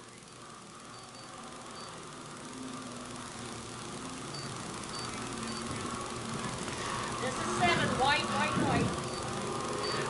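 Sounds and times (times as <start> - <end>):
distant race car engines droning: 0.0 - 10.0.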